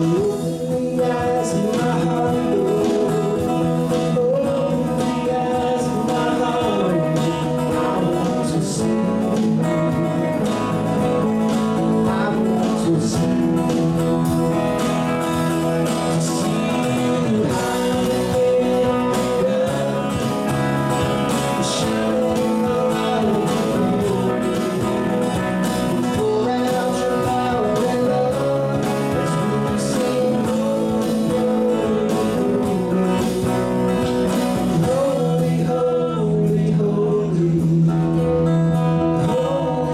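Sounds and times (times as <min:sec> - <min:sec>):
live band playing a song: 0:00.0 - 0:39.9.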